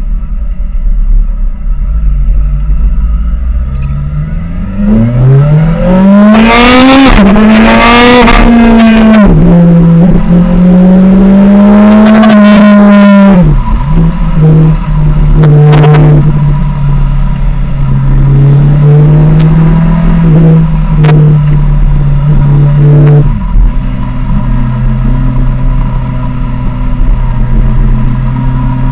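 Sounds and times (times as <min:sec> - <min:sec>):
motorcycle engine revving: 0:03.4 - 0:28.9.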